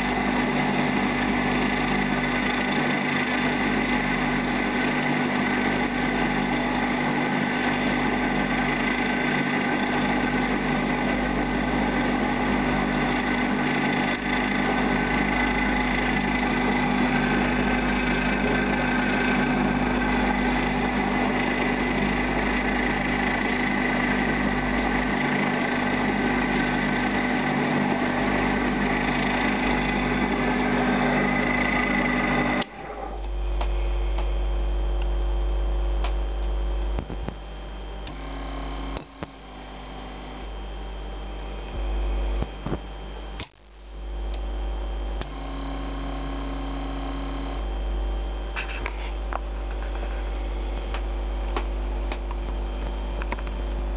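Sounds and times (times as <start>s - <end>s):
lathe motor whining: 0.0s - 34.8s, 37.6s - 43.5s, 45.1s - 53.9s
low electric hum: 0.0s - 53.9s.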